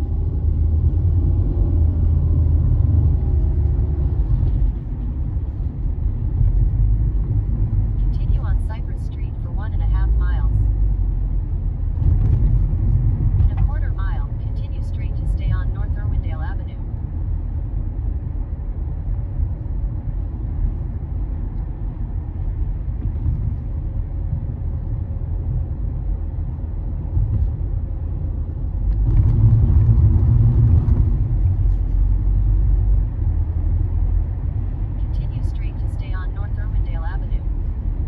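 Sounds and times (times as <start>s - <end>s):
car driving: 0.0s - 38.0s.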